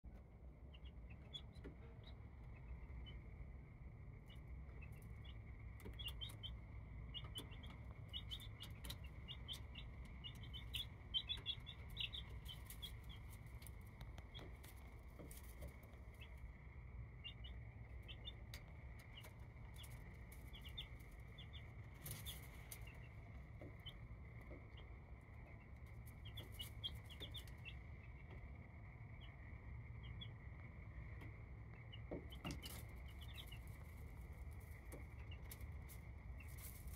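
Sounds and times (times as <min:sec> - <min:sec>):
chicks peeping: 0:00.1 - 0:36.9.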